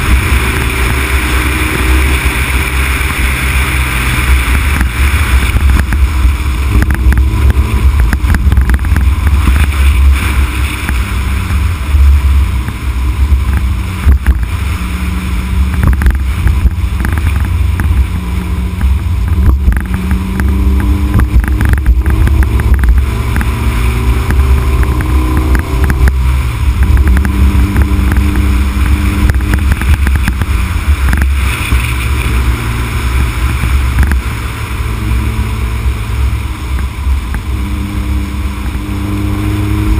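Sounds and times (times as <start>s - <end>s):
car engine revving: 0.0s - 39.9s
wind and road noise: 0.0s - 39.9s.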